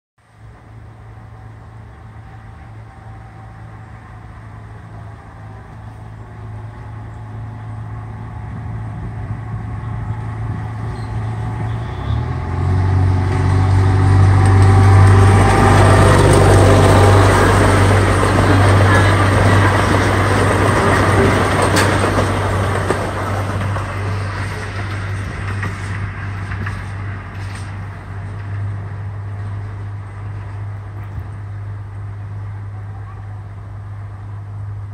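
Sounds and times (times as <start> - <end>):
miniature train engine drone: 0.2 - 34.9
train cars rattling on rails: 1.8 - 30.8.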